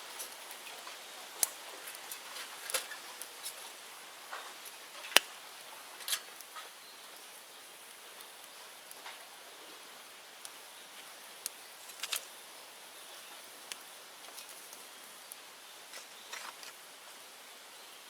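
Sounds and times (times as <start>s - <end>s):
bonfire crackling and popping: 0.1s - 17.2s.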